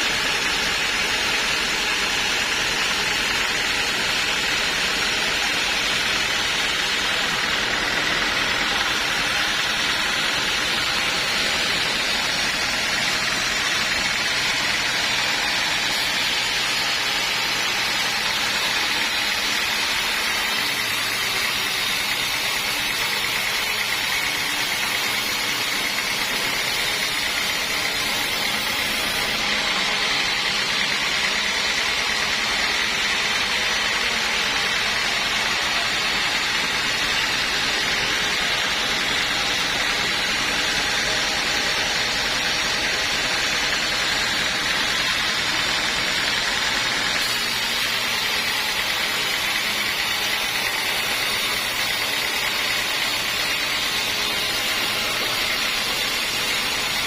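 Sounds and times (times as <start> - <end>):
sawmill saw running: 0.0 - 57.0.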